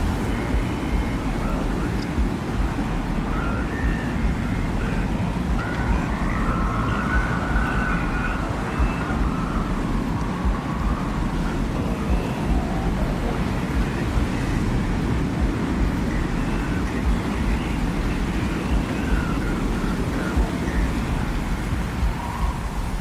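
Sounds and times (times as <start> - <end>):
faint wavering whistles: 0.0 - 23.0
low rumble of wind: 0.0 - 23.0
thin howling wind tone: 0.0 - 23.0.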